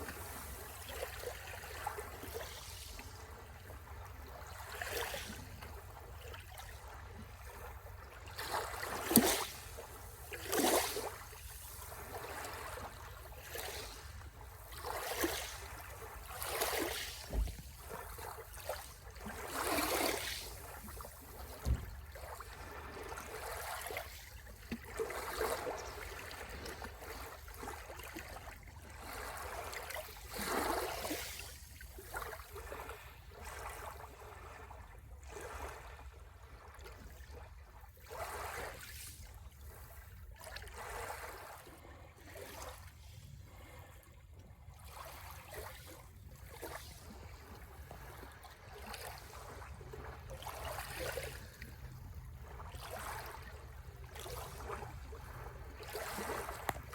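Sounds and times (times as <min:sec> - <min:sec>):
waves lapping on shore: 0:00.0 - 0:56.9.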